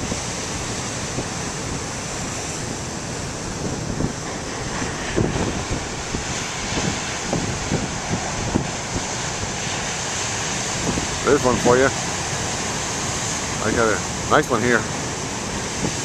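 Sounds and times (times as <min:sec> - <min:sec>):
ocean waves breaking: 0:00.0 - 0:16.0
wind buffeting microphone: 0:00.0 - 0:16.0.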